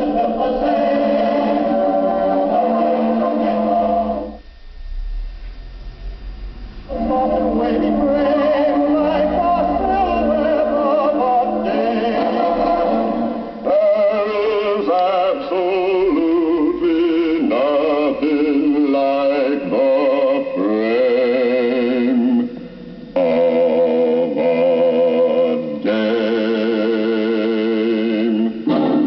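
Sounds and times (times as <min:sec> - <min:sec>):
men singing in harmony: 0:00.0 - 0:04.4, 0:06.9 - 0:29.0.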